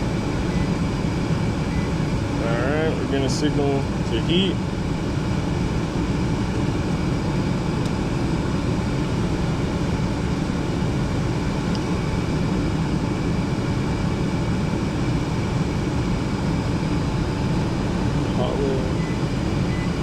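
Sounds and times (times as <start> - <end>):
furnace blower running: 0.0 - 20.0.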